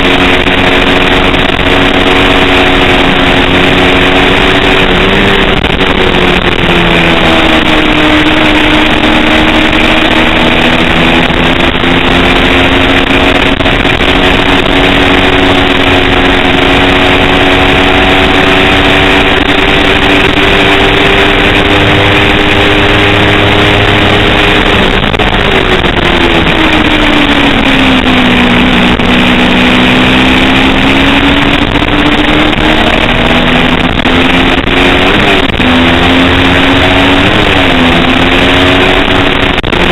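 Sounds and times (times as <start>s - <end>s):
loud rushing noise: 0.0s - 39.9s
motorcycle engine revving high: 0.0s - 39.9s.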